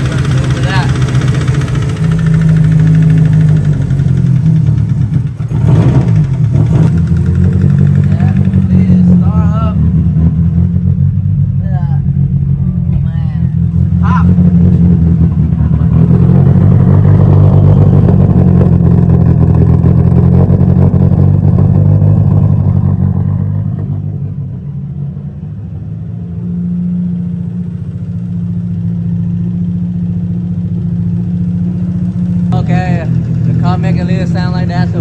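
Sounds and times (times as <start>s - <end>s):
turbocharged engine revving and idling: 0.0s - 35.0s.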